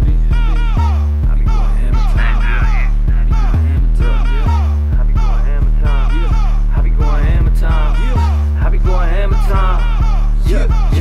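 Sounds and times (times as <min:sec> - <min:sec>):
heavy bass notes: 0:00.0 - 0:11.0
repeating melodic riff: 0:00.0 - 0:11.0.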